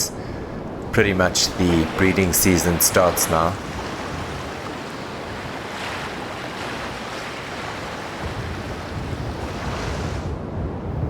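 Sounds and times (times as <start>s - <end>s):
surf washing on shore: 0.0s - 11.0s
wind buffeting microphone: 0.0s - 11.0s.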